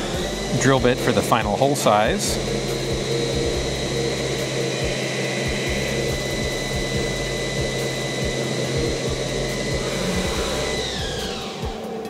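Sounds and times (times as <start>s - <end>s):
lathe spindle whining: 0.0s - 12.0s.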